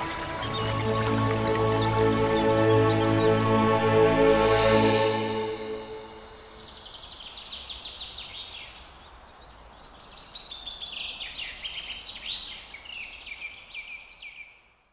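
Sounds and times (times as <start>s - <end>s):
birds singing chirps and trills: 0.0s - 14.9s.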